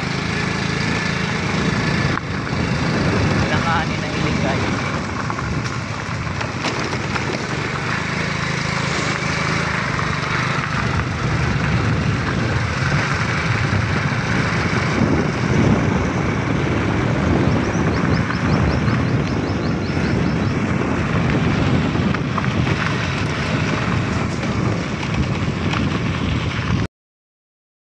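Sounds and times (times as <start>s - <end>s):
motorcycle engine running: 0.0s - 26.9s
wind buffeting microphone: 0.2s - 26.9s.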